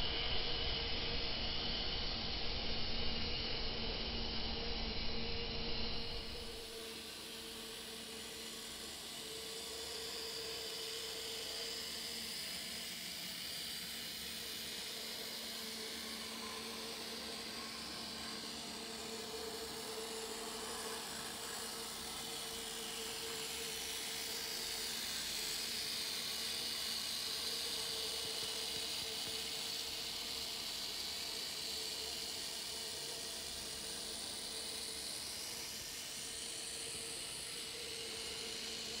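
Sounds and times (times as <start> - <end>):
model train motor whine: 0.0 - 39.0
wheels hissing on rails: 6.0 - 39.0.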